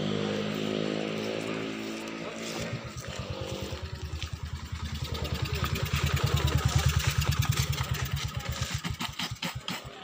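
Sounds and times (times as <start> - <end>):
dirt bike engine low revs: 0.0 - 10.0.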